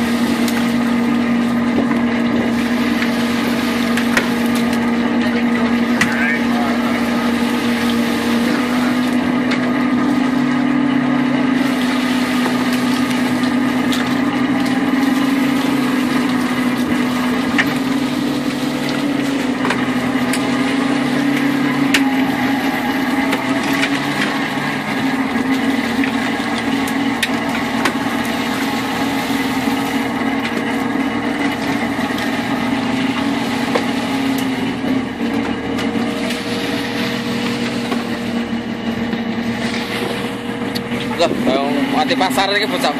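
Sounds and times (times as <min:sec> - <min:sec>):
boat machinery humming: 0:00.0 - 0:42.9.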